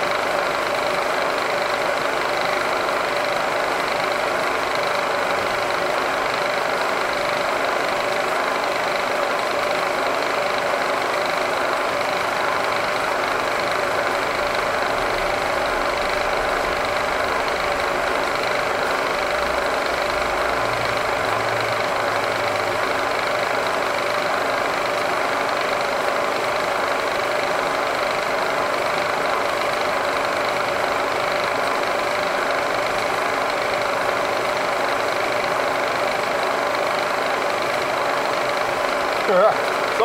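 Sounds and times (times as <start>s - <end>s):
milling machine spindle whine: 0.0s - 40.0s.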